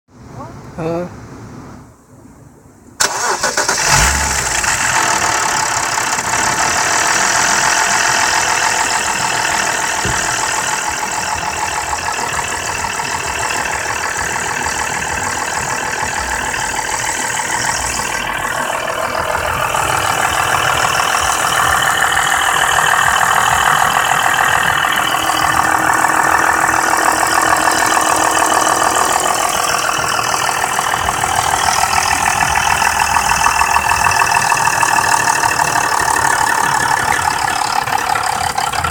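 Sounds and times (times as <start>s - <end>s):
car engine running: 3.0s - 38.9s
fast metallic engine rattle: 3.0s - 38.9s.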